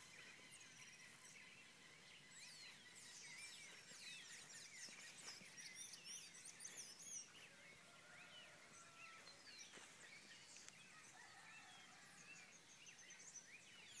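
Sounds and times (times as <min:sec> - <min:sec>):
birds chirping and whistling: 0:00.0 - 0:14.0.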